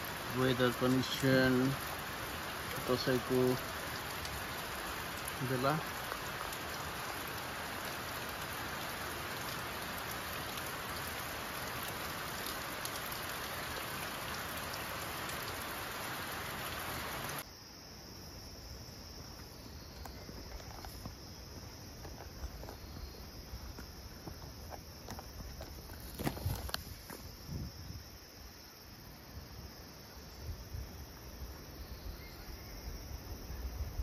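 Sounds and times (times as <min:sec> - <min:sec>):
rain falling: 0:00.0 - 0:17.5, 0:18.7 - 0:34.0
insects trilling: 0:00.0 - 0:34.0.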